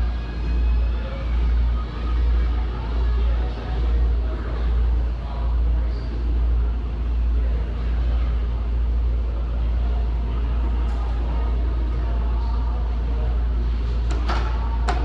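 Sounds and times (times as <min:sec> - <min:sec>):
gym background rumble: 0:00.0 - 0:15.0.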